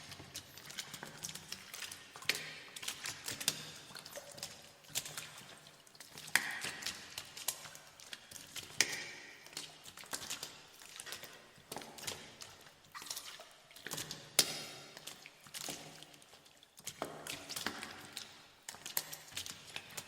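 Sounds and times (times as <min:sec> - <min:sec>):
footsteps splashing in water: 0:00.0 - 0:20.0
water drips and sloshes: 0:00.0 - 0:20.0.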